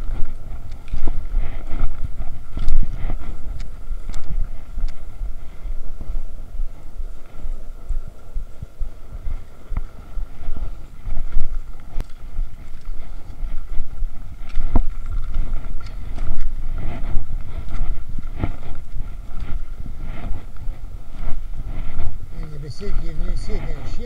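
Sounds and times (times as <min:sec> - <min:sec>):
skis swishing on snow: 0:00.0 - 0:24.0
wind rumbling on microphone: 0:00.0 - 0:24.0.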